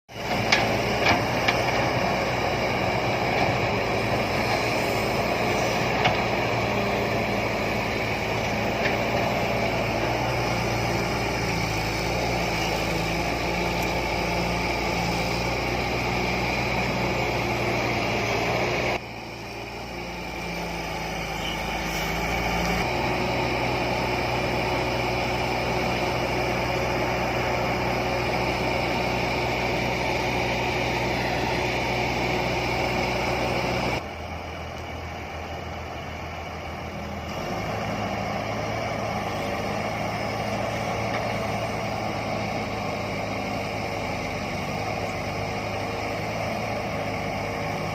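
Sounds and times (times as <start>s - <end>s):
heavy machine engine running: 0.1s - 47.9s.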